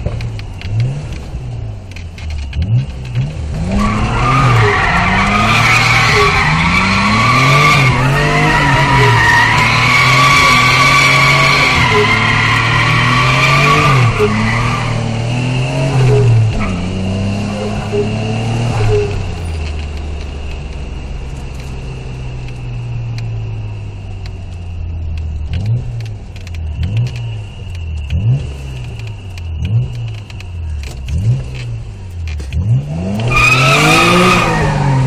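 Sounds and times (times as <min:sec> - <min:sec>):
car engine revving: 0:00.0 - 0:35.0
engine throttle blips: 0:00.0 - 0:35.0.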